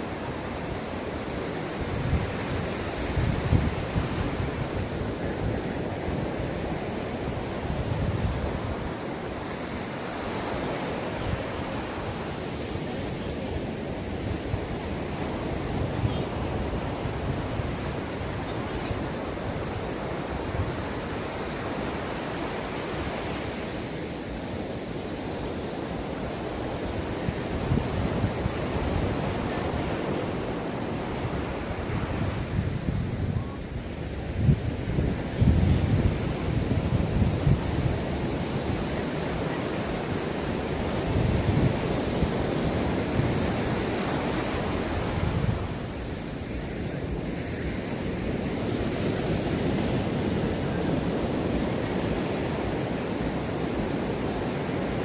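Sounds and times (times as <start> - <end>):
ocean surf washing onto beach: 0.0 - 55.0
wind buffeting microphone: 0.0 - 55.0.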